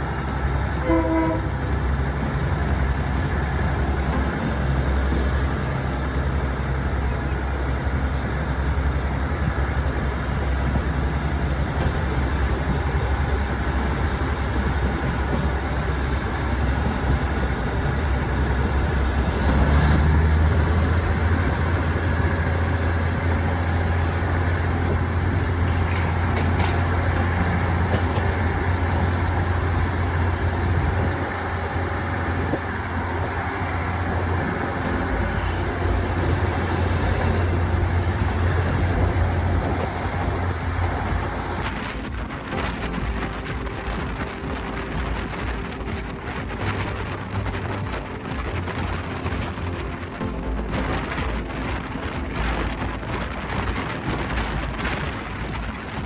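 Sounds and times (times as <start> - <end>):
diesel train engine hum: 0.0 - 56.0
train rumbling: 0.0 - 56.0.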